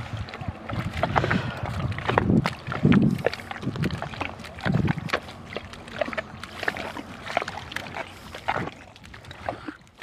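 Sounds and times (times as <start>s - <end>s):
bare feet squelching in mud: 0.0s - 10.0s.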